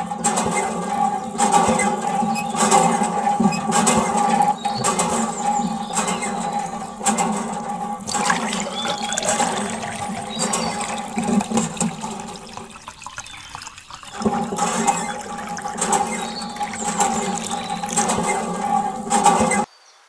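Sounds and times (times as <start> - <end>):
steady hum: 0.0 - 19.7
water gushing and splashing: 0.0 - 19.7.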